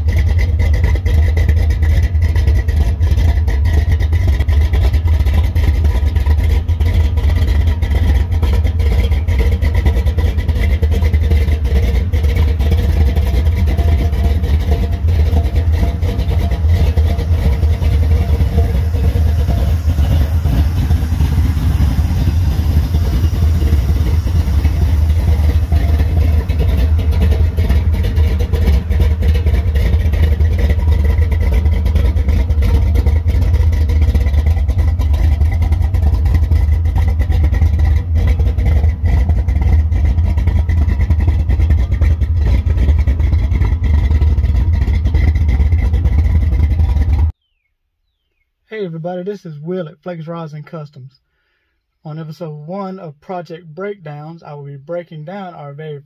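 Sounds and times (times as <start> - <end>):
car engine idling: 0.0 - 47.5.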